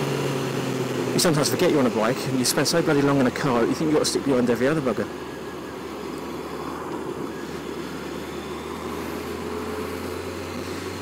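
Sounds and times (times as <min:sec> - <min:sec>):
motorcycle engine cruising: 0:00.0 - 0:11.0
road noise: 0:00.0 - 0:11.0.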